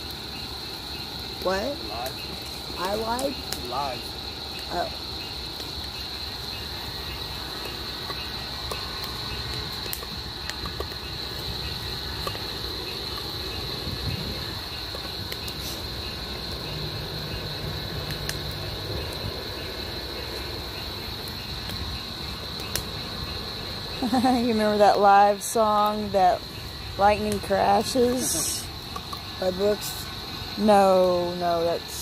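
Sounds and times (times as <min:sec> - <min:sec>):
log fire crackling and popping: 0:00.0 - 0:32.0
night insects chorus: 0:00.0 - 0:32.0.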